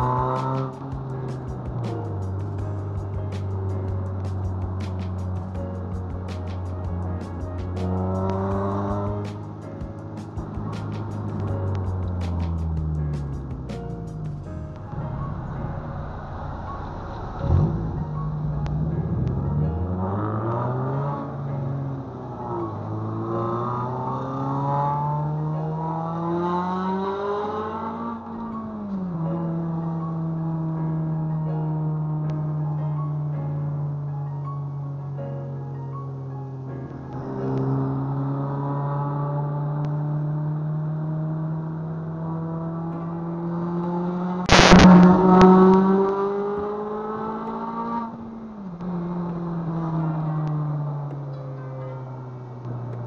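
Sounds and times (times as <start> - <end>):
car engine accelerating: 0.0 - 35.0, 36.0 - 53.0.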